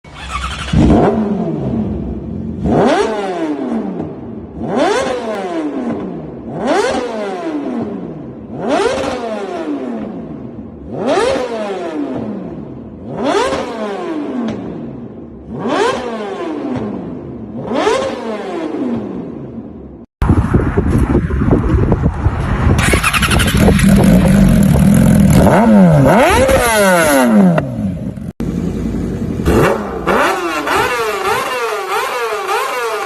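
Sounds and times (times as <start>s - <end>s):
motorcycle engine revving: 0.1s - 20.1s, 22.7s - 33.0s.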